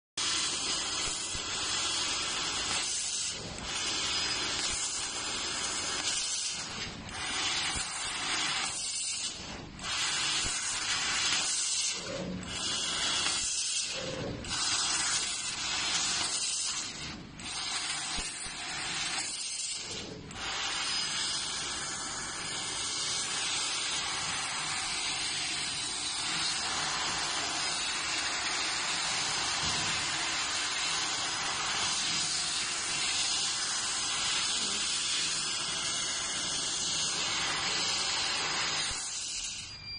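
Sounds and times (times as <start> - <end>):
gas hissing through laser nozzle: 0.2 - 39.7.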